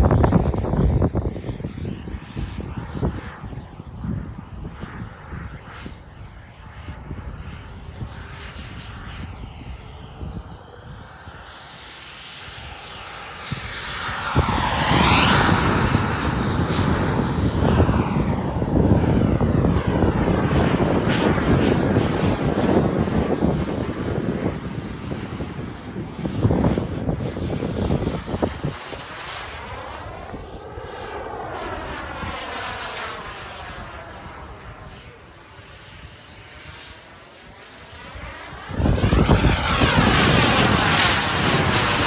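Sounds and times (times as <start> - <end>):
model jet turbine whine: 0.0 - 42.0.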